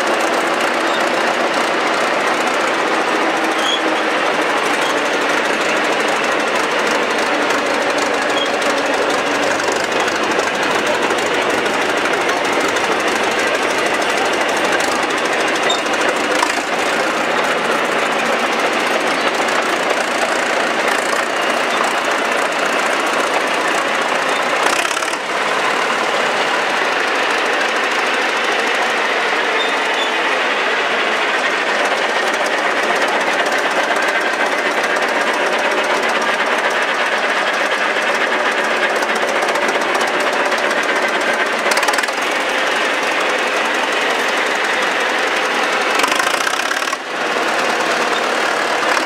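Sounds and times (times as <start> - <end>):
steel tracks clanking: 0.0 - 49.0
tractor engine clattering: 0.0 - 49.0.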